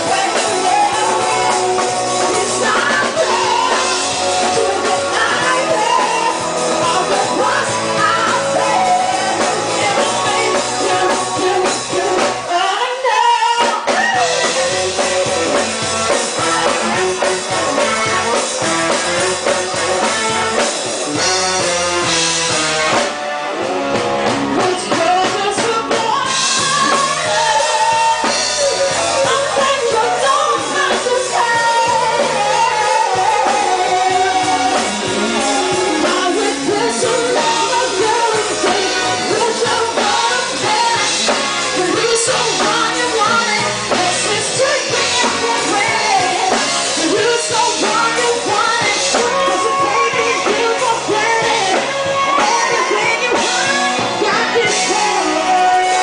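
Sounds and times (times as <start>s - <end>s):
person singing: 0.0s - 23.0s, 24.2s - 56.0s
drums: 0.0s - 56.0s
guitar: 0.0s - 56.0s
rock band playing: 0.0s - 56.0s.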